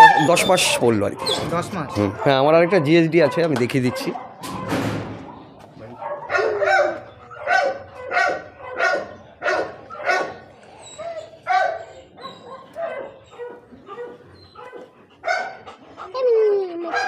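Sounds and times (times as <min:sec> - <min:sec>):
dog barking: 0:00.0 - 0:15.6.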